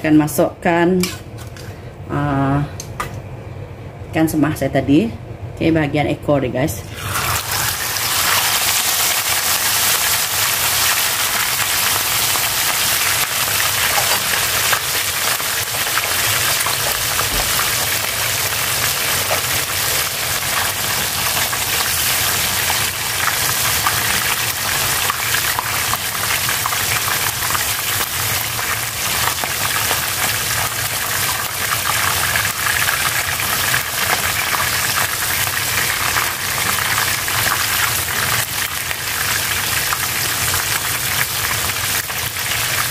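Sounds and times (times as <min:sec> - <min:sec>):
fish sizzling in hot oil: 0:07.0 - 0:42.9.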